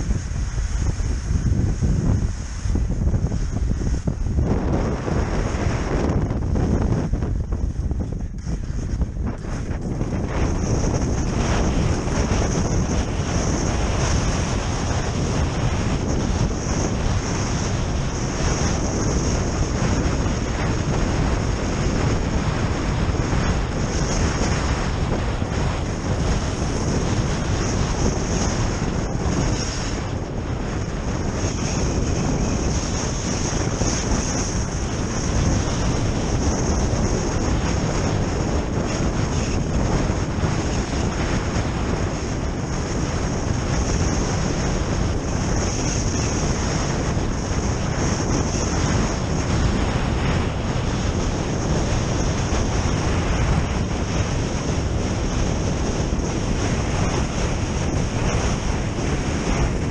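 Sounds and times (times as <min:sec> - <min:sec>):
skis hissing over snow: 0:00.0 - 0:59.8
wind buffeting microphone: 0:00.0 - 0:59.9.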